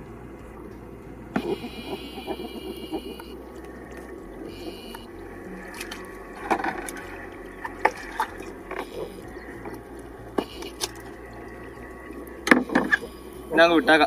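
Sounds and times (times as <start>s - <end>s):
steady watery hiss: 0.0s - 14.0s.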